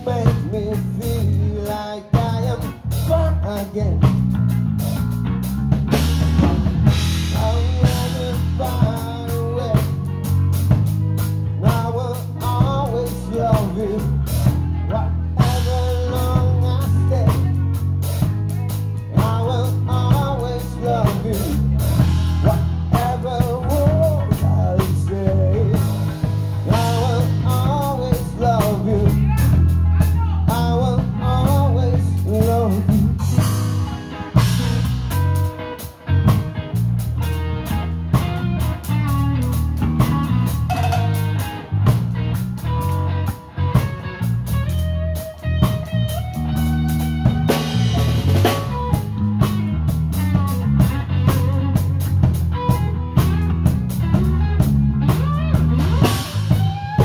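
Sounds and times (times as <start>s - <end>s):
bending electric guitar lead: 0.0s - 57.0s
live blues-rock band: 0.0s - 57.0s.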